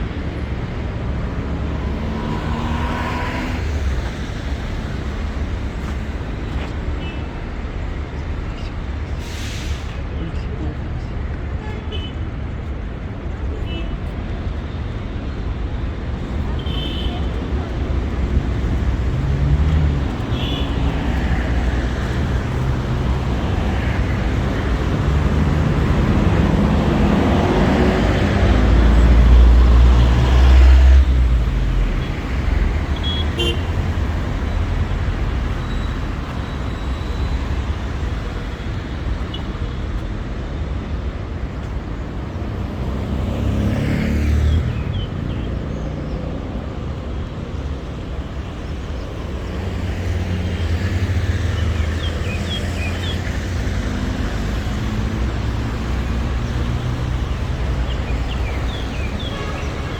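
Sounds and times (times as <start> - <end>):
vehicles passing on wet street: 0.0 - 59.9.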